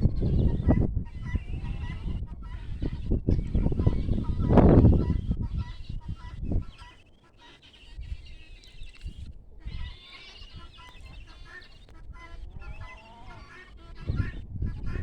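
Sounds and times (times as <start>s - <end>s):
guineafowl calling: 0.0s - 15.0s.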